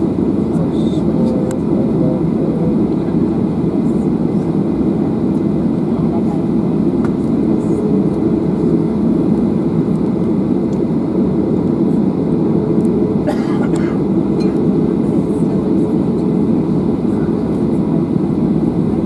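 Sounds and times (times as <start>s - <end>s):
airplane cabin rumble while taxiing: 0.0s - 19.0s.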